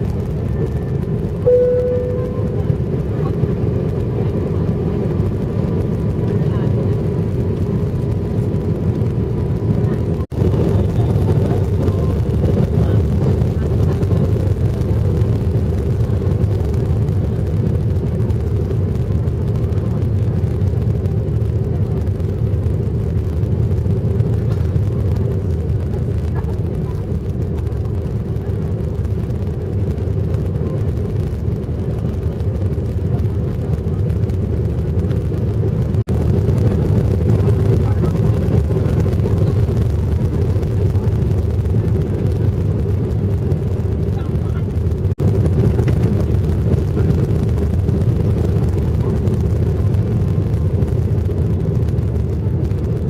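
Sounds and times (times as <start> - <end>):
airliner engines and airflow rumble: 0.0 - 53.0.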